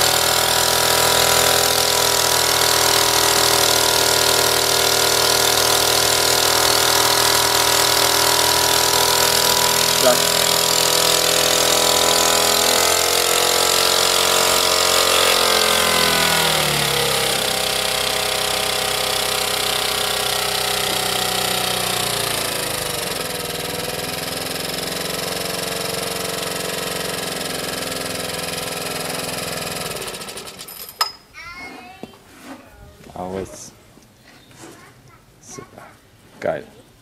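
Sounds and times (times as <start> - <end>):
portable generator engine running: 0.0 - 30.9.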